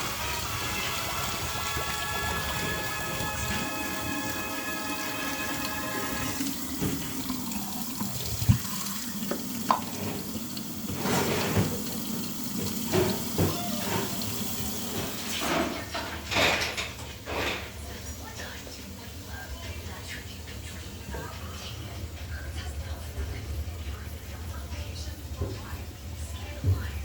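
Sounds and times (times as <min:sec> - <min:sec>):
faucet water running into sink: 0:00.0 - 0:27.0.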